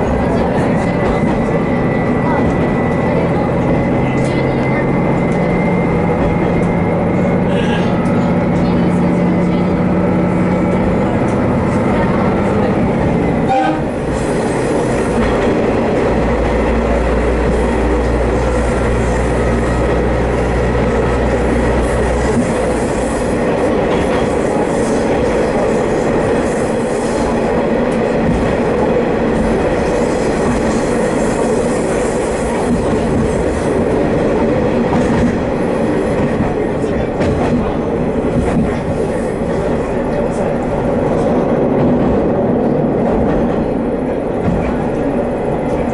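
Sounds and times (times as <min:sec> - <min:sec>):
railcar running noise: 0:00.0 - 0:45.9.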